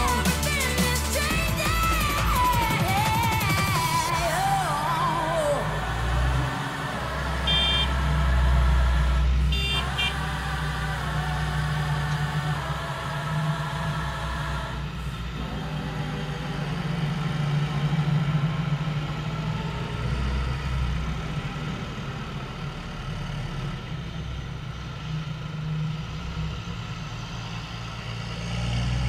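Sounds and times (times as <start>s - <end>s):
diesel tractors driving past: 0.0s - 29.0s.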